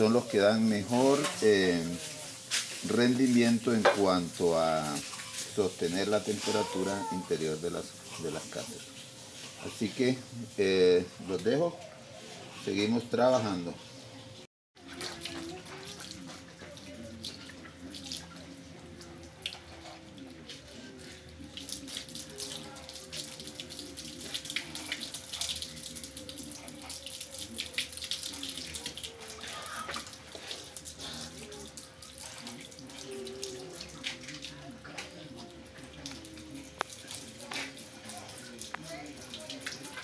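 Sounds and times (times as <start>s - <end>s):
hose water spraying on concrete: 0.0s - 11.6s, 14.8s - 40.0s.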